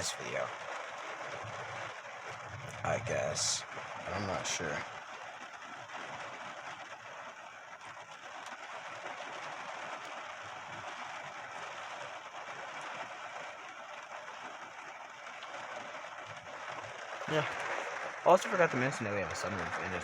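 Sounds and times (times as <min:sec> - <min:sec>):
rain on car roof: 0:00.0 - 0:20.0.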